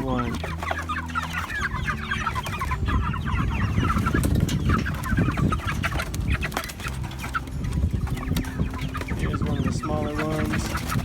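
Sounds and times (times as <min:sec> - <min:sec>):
rustling and knocks: 0:00.0 - 0:09.4
chickens peeping and clucking: 0:00.0 - 0:11.0.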